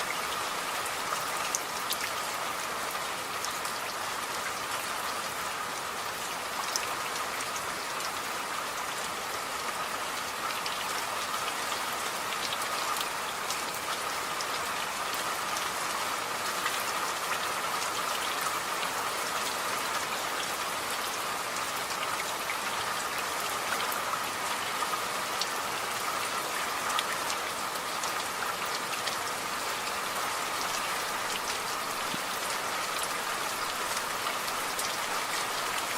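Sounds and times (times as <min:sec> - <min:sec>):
rain drops pattering: 0:00.0 - 0:35.9.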